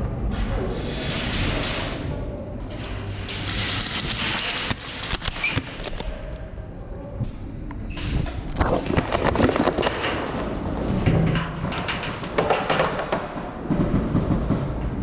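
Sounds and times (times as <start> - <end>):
sharp clicks and knocks: 0.9 - 6.1, 7.7 - 15.0.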